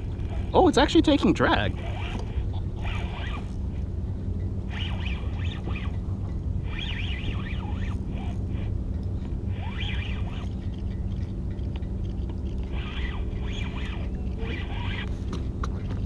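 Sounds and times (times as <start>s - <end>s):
fishing reel drag buzzing: 0.0s - 10.8s, 12.7s - 15.4s.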